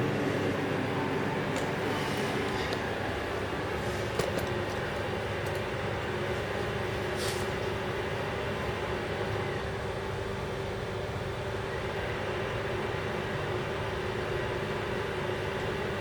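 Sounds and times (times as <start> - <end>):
machine running with low hum: 0.0 - 16.0.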